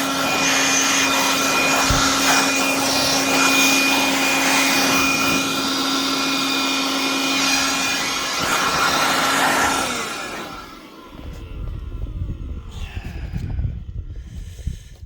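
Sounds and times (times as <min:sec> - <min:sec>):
electric chainsaw running: 0:00.0 - 0:12.7.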